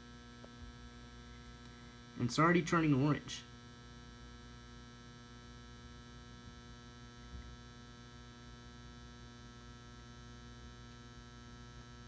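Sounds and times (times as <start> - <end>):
buzzy electrical hum: 0.0 - 12.0.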